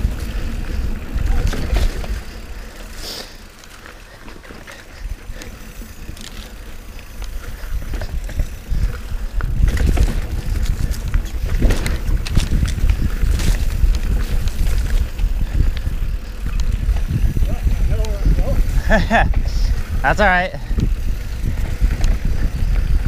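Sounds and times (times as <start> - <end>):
wind on microphone: 0.0 - 2.6, 6.0 - 23.0
bike rattling clicks: 0.0 - 23.0
bike tyre rumble on dirt: 0.0 - 23.0.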